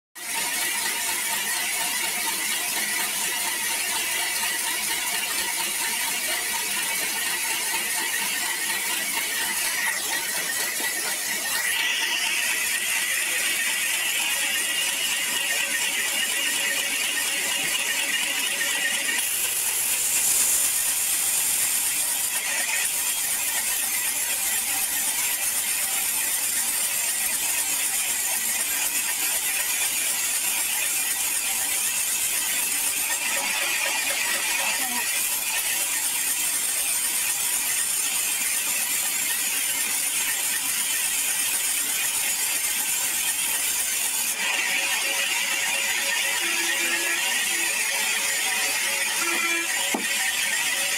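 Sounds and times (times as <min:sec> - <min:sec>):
band saw whining through log: 0:00.2 - 0:50.9.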